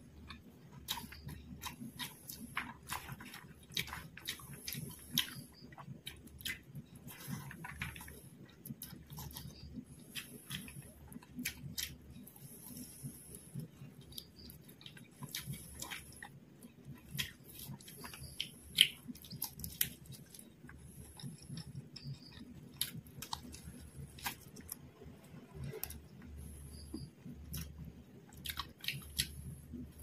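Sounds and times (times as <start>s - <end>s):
wet chewing: 0.1s - 30.0s.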